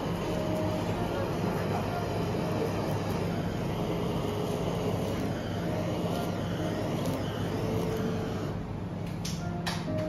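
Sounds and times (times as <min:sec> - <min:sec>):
blowtorch hissing: 0:00.0 - 0:08.7.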